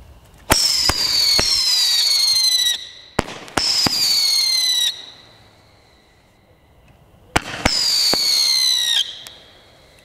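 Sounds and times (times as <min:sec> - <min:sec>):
firework shots sharp reports: 0:00.5 - 0:06.2, 0:07.3 - 0:10.0
shrill falling firework whistle: 0:00.5 - 0:06.2, 0:07.6 - 0:09.9.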